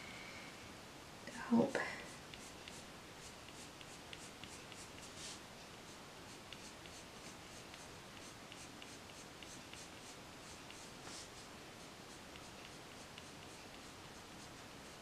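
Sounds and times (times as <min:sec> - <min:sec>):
pencil scratching on paper: 0:02.0 - 0:15.0.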